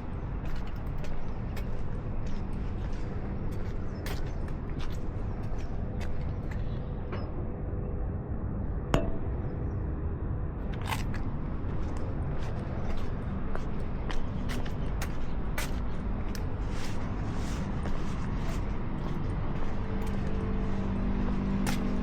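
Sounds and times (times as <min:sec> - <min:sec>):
road and wind noise: 0:00.0 - 0:22.0.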